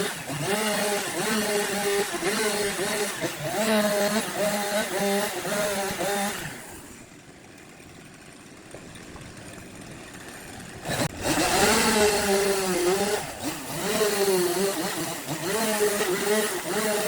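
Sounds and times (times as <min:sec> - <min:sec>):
power tool motor running: 0:00.0 - 0:17.0.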